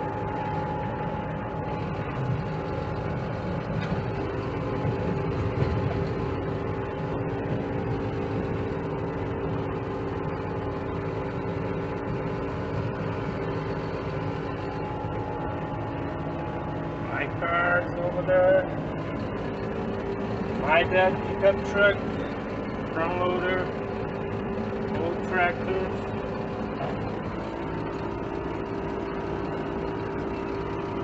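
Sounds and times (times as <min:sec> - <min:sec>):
road rumble: 0:00.0 - 0:31.0
truck diesel engine drone: 0:00.0 - 0:31.0.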